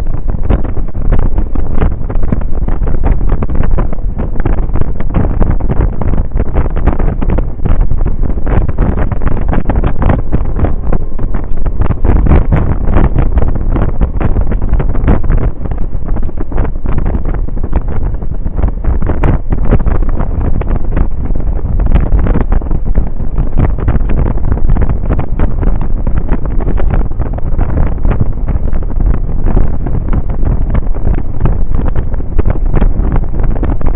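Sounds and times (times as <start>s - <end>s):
scooter riding rumble: 0.0s - 33.9s
wind buffeting microphone: 0.0s - 33.9s.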